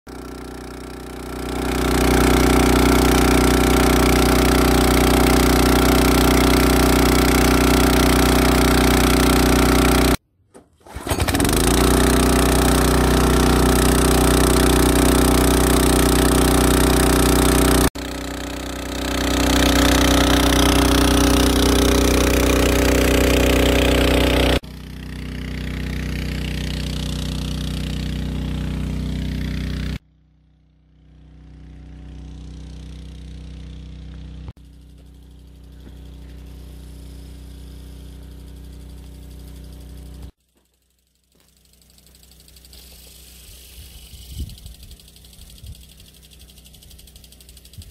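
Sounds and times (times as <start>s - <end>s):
water pump engine running: 0.1s - 10.2s, 10.8s - 47.9s.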